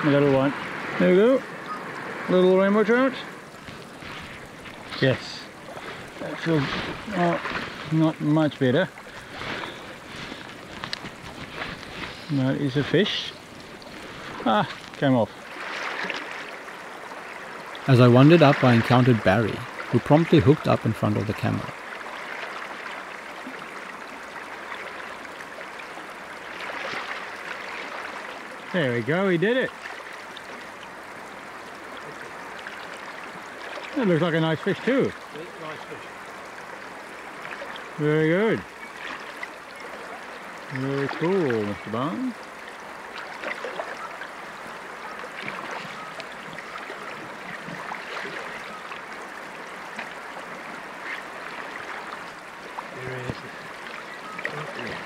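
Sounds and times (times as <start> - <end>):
flowing river: 0.0 - 55.0
small water ticks and splashes: 2.9 - 55.0.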